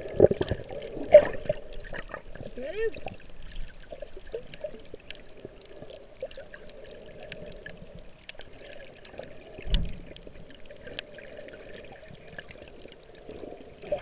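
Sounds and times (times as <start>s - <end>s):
muffled underwater rush: 0.0s - 14.0s.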